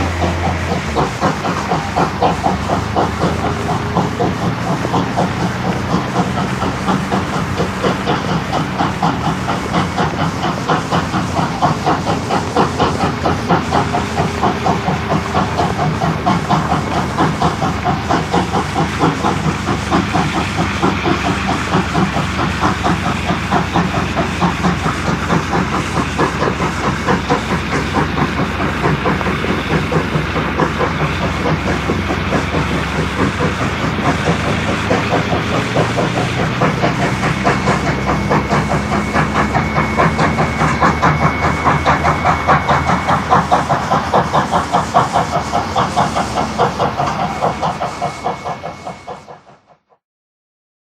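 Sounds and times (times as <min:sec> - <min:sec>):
steam hissing: 0:00.0 - 0:49.9
steam locomotive exhaust beats: 0:00.0 - 0:50.0.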